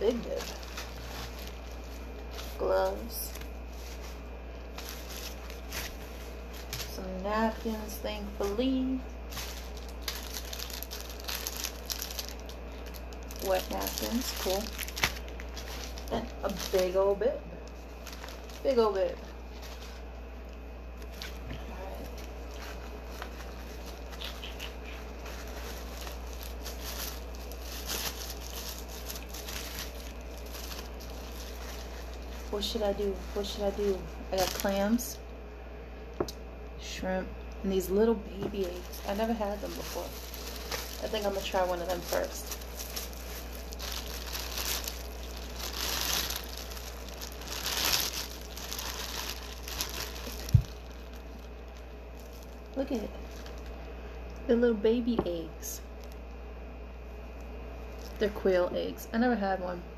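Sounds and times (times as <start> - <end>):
plastic bib crinkling: 0.0 - 35.2, 37.8 - 54.4, 57.3 - 58.4.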